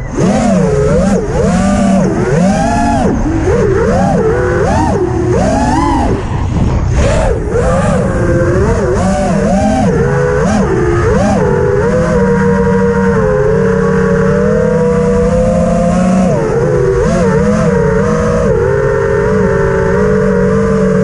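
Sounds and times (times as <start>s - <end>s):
drone motors whining: 0.0s - 21.0s
wind noise: 0.0s - 21.0s.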